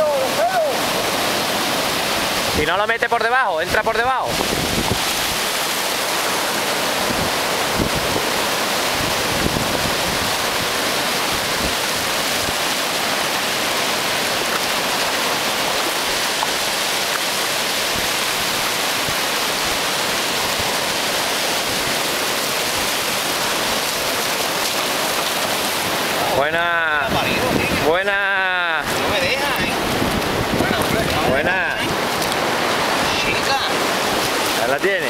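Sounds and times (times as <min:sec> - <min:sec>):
surf breaking on sand: 0:00.0 - 0:35.0.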